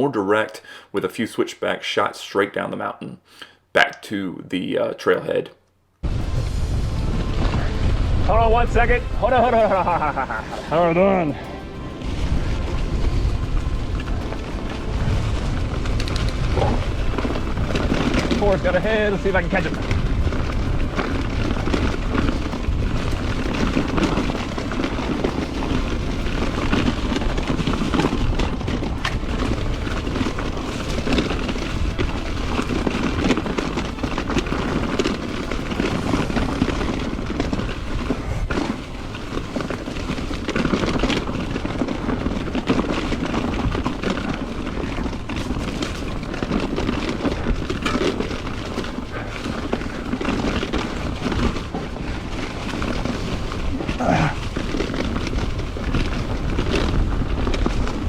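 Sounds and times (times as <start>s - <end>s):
bike rattling over bumps: 6.0s - 58.0s
tyres rolling over rocky trail: 6.0s - 58.0s
wind buffeting microphone: 6.0s - 58.0s.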